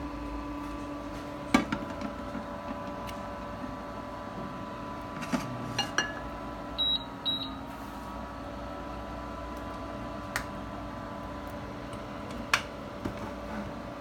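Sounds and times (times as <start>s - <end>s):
electric cooktop hum: 0.0s - 14.0s.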